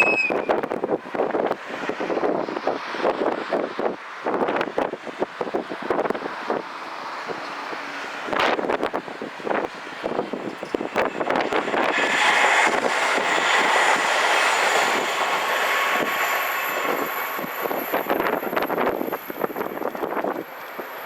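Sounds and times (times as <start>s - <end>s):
diesel railcar running: 0.0s - 21.0s.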